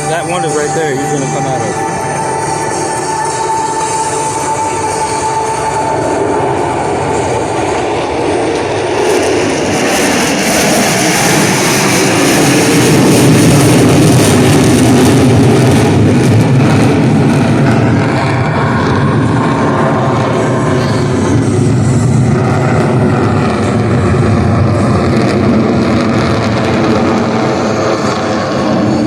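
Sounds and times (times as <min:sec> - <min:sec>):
jet roar: 0:00.0 - 0:29.0.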